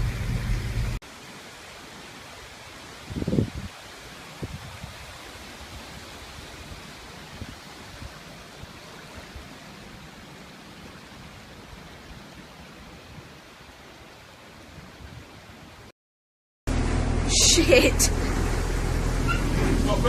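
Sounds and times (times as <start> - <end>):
storm water rushing: 0.0 - 15.9, 16.7 - 20.0.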